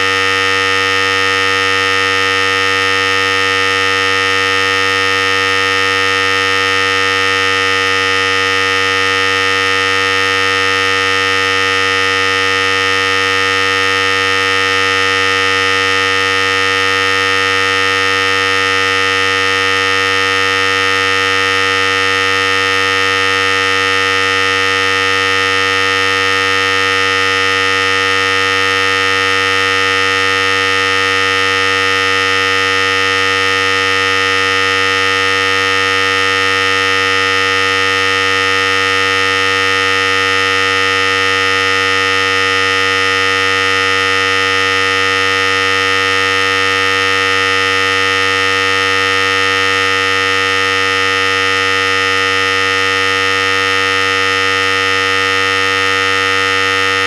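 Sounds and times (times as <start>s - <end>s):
electric hair clippers running: 0.0s - 57.0s.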